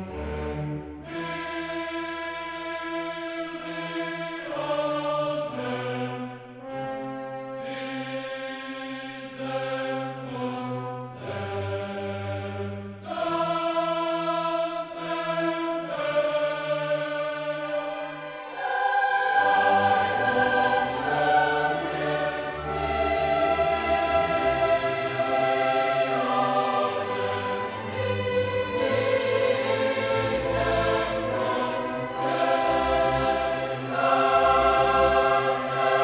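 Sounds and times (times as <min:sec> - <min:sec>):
choir singing sustained chords: 0:00.0 - 0:36.0.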